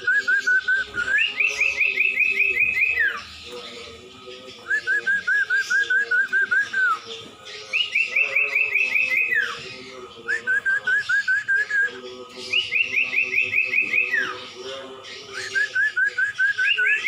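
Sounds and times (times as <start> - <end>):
bird song of whistled notes: 0.0 - 17.0.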